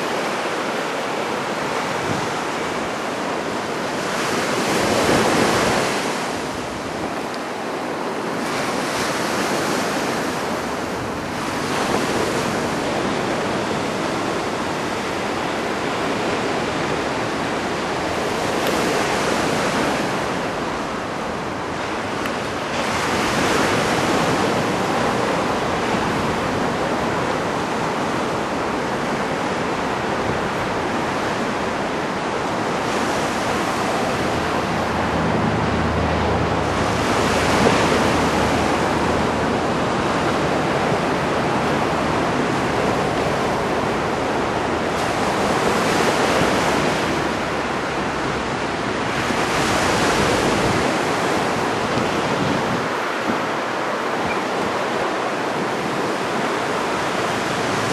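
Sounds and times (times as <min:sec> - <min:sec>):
ocean waves breaking: 0:00.0 - 0:57.9
wind buffeting microphone: 0:00.0 - 0:57.9.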